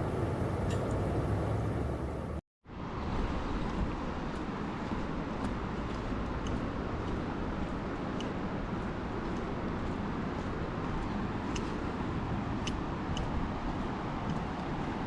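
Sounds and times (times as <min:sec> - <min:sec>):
outdoor rushing hiss and rumble: 0:00.0 - 0:15.0.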